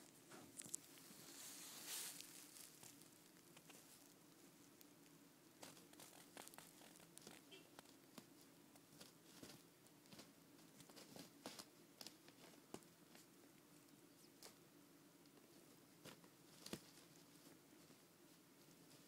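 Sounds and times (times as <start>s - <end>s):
kitten paws scratching and tapping: 0.0s - 4.9s, 5.6s - 13.4s, 15.3s - 18.0s
low steady hum: 0.0s - 19.0s.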